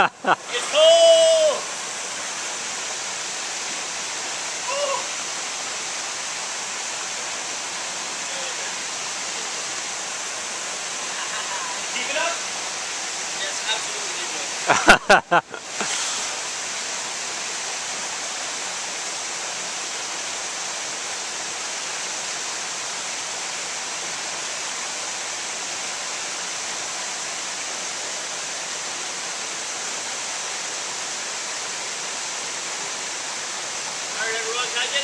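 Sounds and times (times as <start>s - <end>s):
waterfall rushing into pool: 0.0s - 35.0s.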